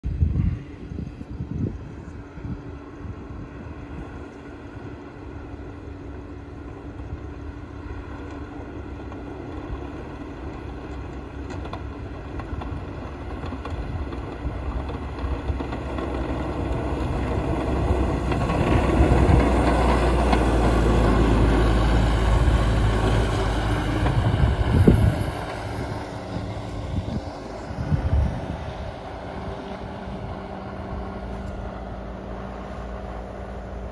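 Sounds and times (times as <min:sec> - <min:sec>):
tractor engine driving past: 0:02.2 - 0:33.9.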